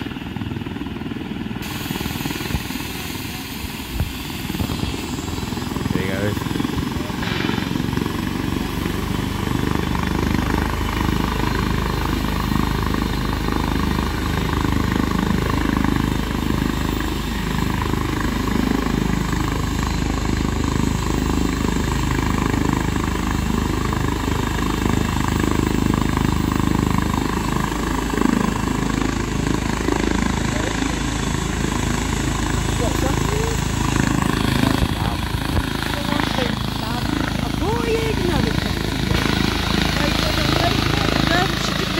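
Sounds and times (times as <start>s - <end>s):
helicopter turbine and rotor idling: 0.0s - 41.9s.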